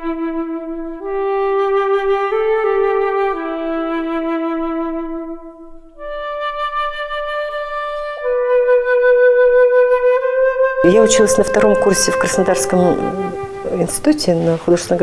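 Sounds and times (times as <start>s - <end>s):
solo flute long notes: 0.0s - 14.5s.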